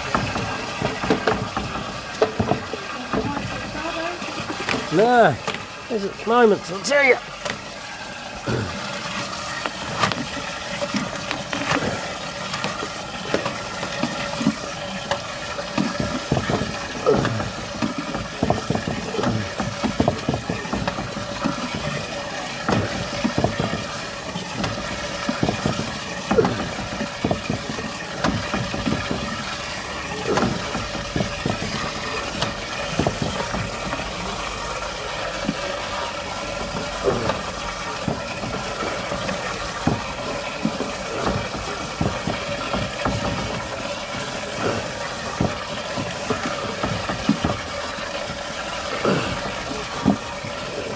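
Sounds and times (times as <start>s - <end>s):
running water: 0.0s - 50.9s.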